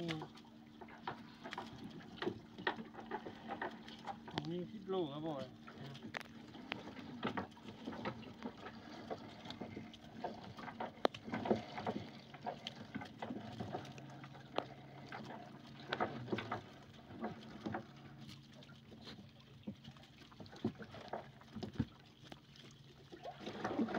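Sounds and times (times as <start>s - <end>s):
low steady hum: 0.0s - 23.9s.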